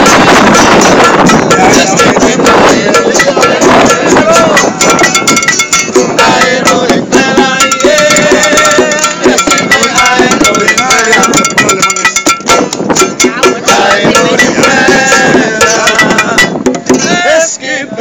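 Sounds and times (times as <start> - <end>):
quick percussion beat: 0.0 - 17.4
people singing: 0.0 - 18.0.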